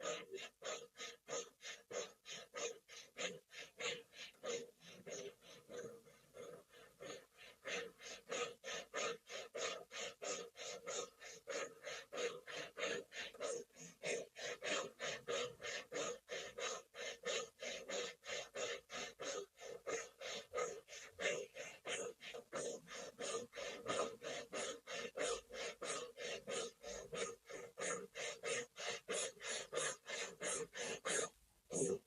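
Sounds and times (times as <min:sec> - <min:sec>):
rapid mouth breathing: 0:00.0 - 0:32.0.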